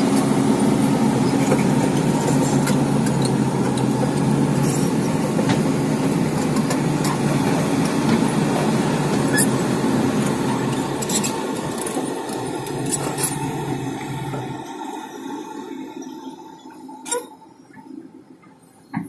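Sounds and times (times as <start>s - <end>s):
diesel engine running: 0.0s - 15.8s.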